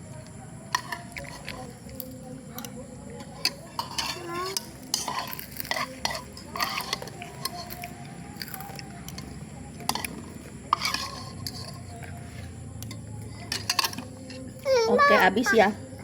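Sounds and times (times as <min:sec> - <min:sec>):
utensils clinking against a bowl: 0:00.2 - 0:16.0.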